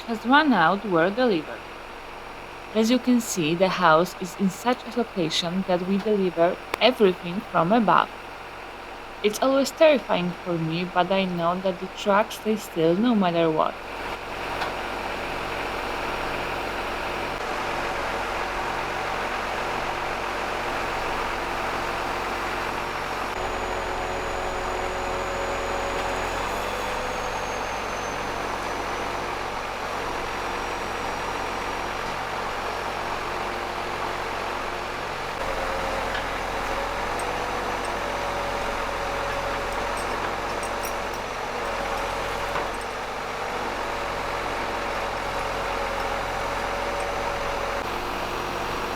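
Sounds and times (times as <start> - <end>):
engine whine: 0.0 - 48.9
truck engine running: 0.0 - 48.9.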